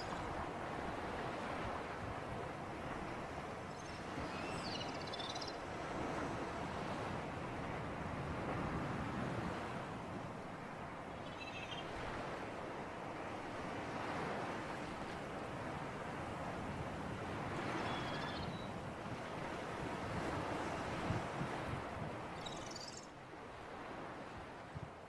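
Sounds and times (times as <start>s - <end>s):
sea surf and wind: 0.0s - 25.0s.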